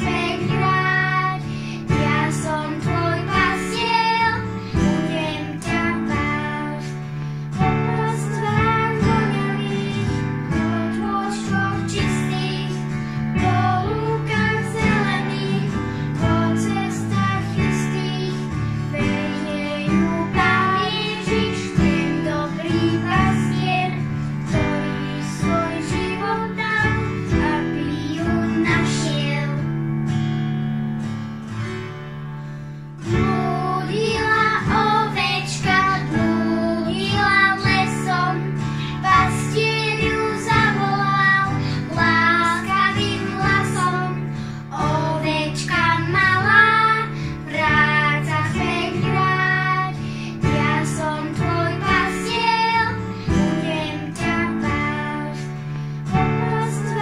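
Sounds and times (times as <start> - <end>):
children singing: 0.0 - 29.6, 33.0 - 55.5, 56.2 - 57.0
acoustic guitar: 0.0 - 57.0
piano: 0.0 - 57.0.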